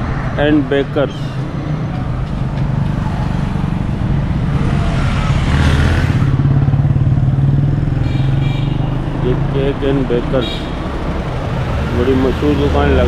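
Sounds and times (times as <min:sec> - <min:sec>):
traffic rush: 0:00.0 - 0:13.0
vehicle engine humming: 0:00.0 - 0:13.0.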